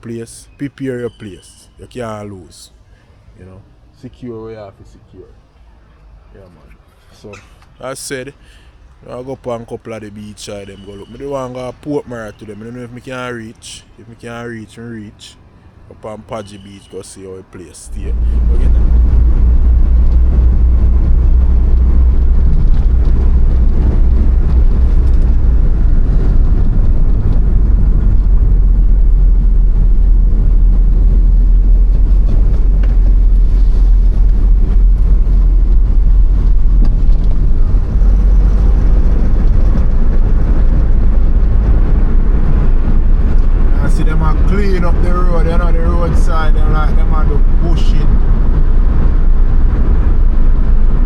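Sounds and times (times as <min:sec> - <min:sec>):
road vehicle rumbling: 0:00.0 - 0:51.0.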